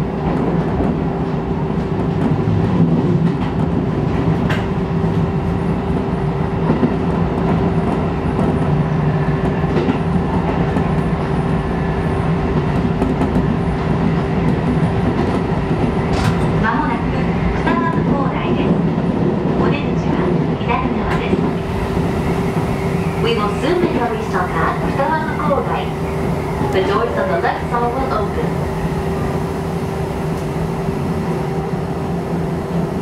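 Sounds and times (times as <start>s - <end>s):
constant train hum: 0.0s - 33.0s
train wheels rumbling on rails: 0.0s - 33.0s.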